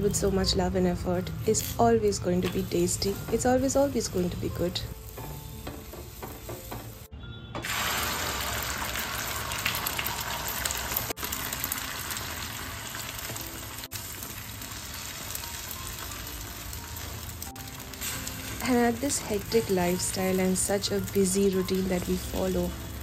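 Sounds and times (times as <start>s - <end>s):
egg sizzling on hot griddle: 1.6s - 22.0s.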